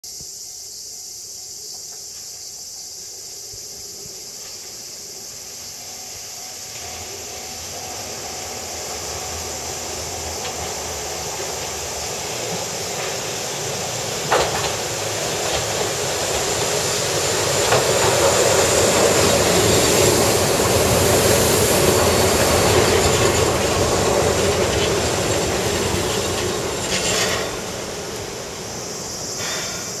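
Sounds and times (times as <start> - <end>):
electric train running: 4.4 - 30.0
wheels clacking on rail: 5.7 - 30.0.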